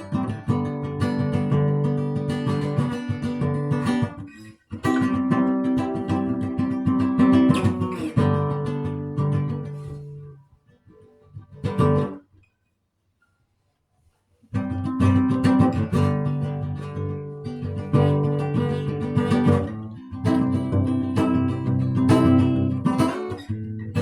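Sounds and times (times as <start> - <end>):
acoustic guitar strumming: 0.0 - 10.4, 14.6 - 24.0.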